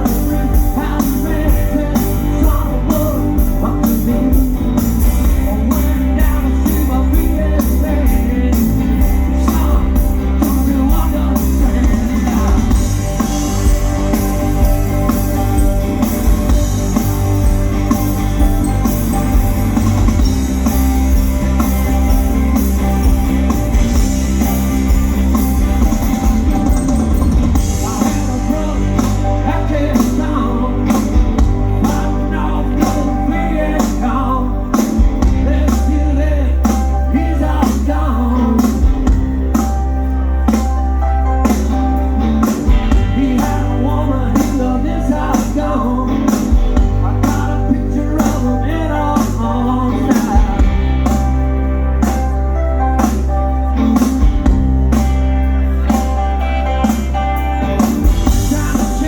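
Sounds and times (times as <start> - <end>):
person singing: 0.0 - 17.6, 25.9 - 54.3, 55.8 - 59.0
drum kit: 0.0 - 59.0
electric guitar: 0.0 - 59.0
rock band playing live: 0.0 - 59.0.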